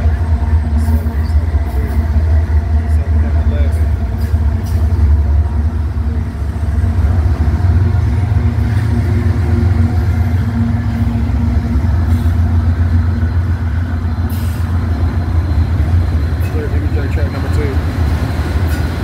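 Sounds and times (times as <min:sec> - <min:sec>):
diesel locomotives passing: 0:00.0 - 0:19.0.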